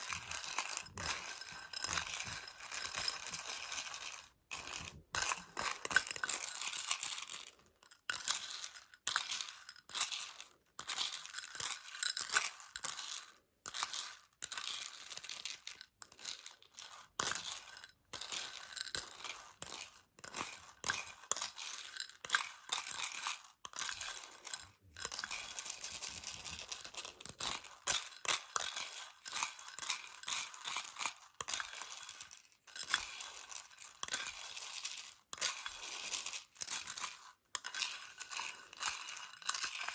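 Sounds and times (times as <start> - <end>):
chocolate pellets rattling in plastic container: 0.0 - 7.5, 8.1 - 39.9.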